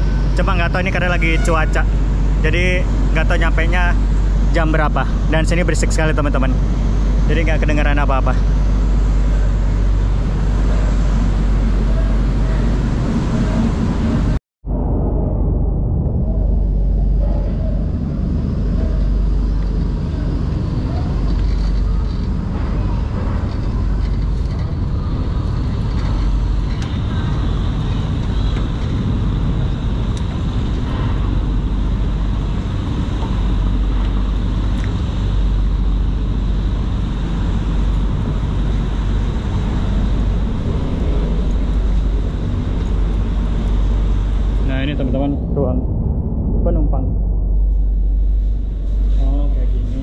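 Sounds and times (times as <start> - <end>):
ship engines droning: 0.0 - 50.0
thin high whine: 0.0 - 50.0.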